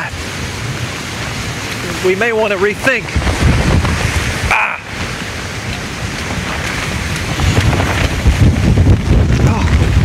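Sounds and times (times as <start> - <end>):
driving rain: 0.0 - 10.0
strong wind: 0.0 - 10.0
wind buffeting microphone: 0.0 - 10.0.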